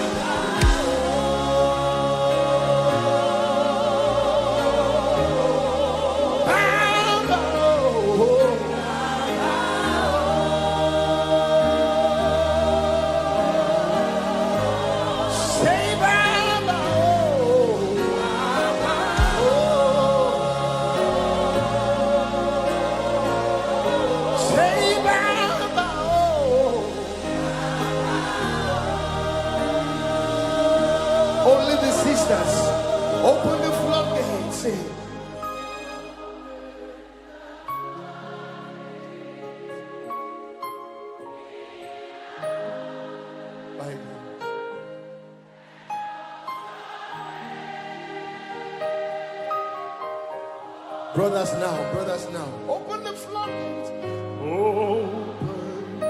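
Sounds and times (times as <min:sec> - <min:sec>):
choir singing long notes with vibrato: 0:00.0 - 0:56.0
keyboard chords: 0:00.0 - 0:56.0.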